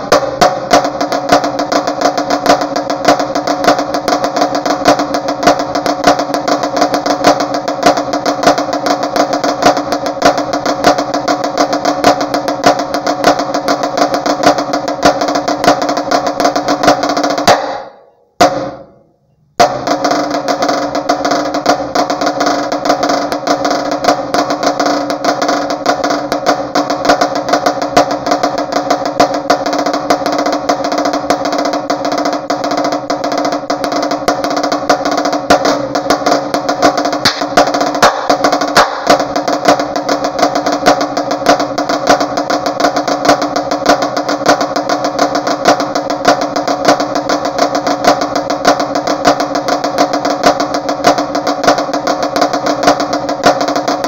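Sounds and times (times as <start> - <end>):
marching snare drum rolls: 0.0 - 19.0, 19.6 - 54.0.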